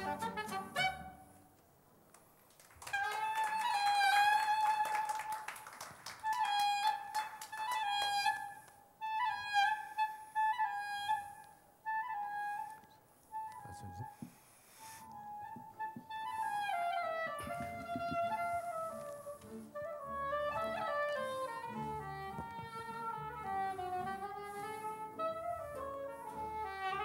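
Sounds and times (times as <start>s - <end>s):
klezmer melody: 0.0s - 1.5s, 2.8s - 5.4s, 6.2s - 14.2s, 14.9s - 27.0s.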